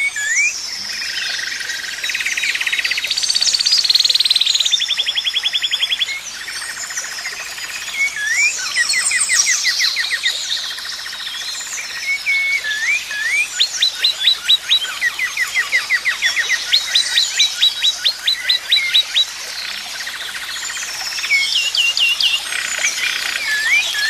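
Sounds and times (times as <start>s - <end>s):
birds twittering: 0.0s - 24.0s
songbirds whistling: 0.0s - 24.0s.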